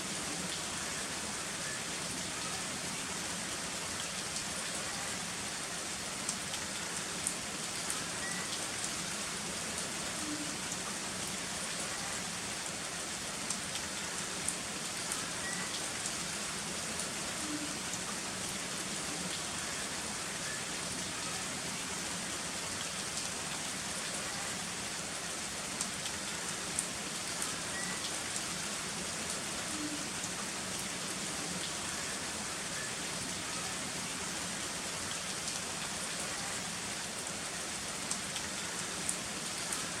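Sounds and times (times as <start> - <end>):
heavy rain: 0.0 - 40.0.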